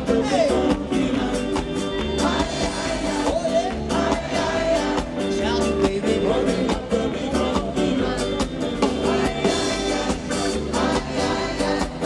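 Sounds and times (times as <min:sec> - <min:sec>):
drum kit beat: 0:00.0 - 0:12.0
electric bass guitar: 0:00.0 - 0:12.0
man singing: 0:00.0 - 0:12.0
rock band playing: 0:00.0 - 0:12.0.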